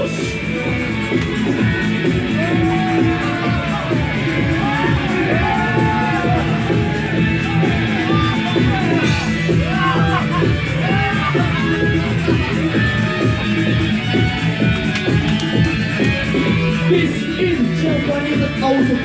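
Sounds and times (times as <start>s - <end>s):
drums with cymbal hits: 0.0s - 17.1s
electric guitars: 0.0s - 19.0s.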